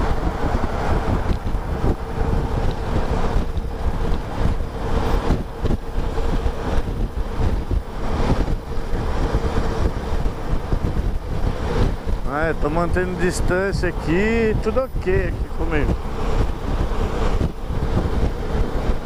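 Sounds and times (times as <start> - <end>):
motorcycle engine and tyres drone: 0.0 - 19.0
wind buffeting microphone: 0.0 - 19.0.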